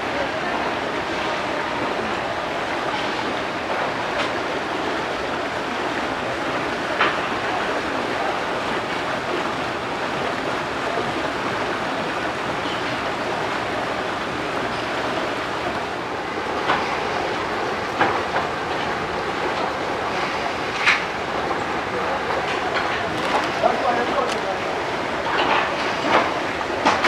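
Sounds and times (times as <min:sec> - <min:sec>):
flowing water: 0:00.0 - 0:27.0.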